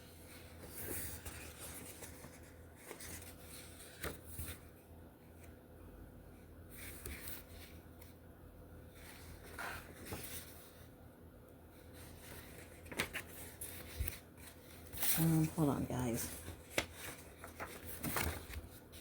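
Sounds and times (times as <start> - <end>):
book pages rustling: 0.1 - 5.6, 6.7 - 8.2, 8.8 - 10.9, 11.7 - 19.0.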